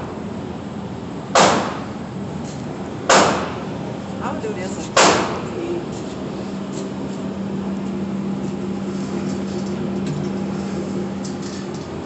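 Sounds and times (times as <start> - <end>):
ventilation system droning hum: 0.0 - 12.0.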